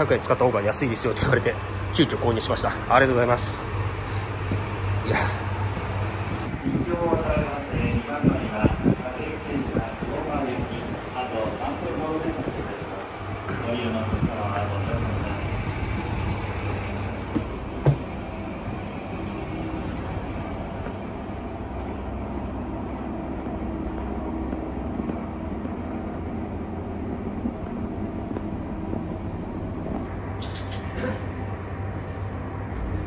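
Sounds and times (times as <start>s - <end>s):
diesel railcar engine droning: 0.0s - 33.0s.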